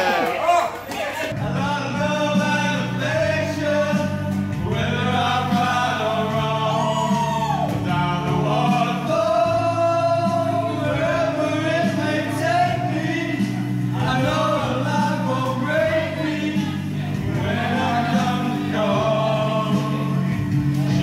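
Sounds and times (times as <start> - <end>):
men singing together: 1.3 - 21.0
instrumental music with bass line: 1.4 - 21.0.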